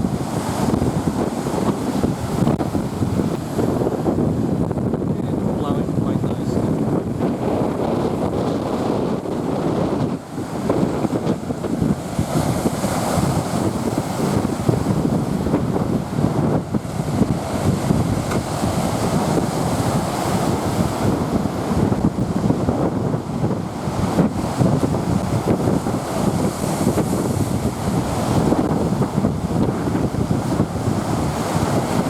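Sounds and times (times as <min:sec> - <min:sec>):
waves breaking on shore: 0:00.0 - 0:32.0
wind buffeting microphone: 0:00.0 - 0:32.0.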